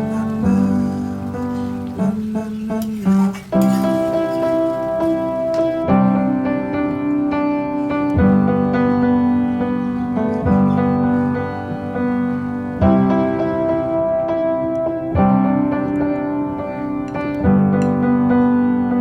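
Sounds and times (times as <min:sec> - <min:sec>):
sustained keyboard chords: 0:00.0 - 0:19.0.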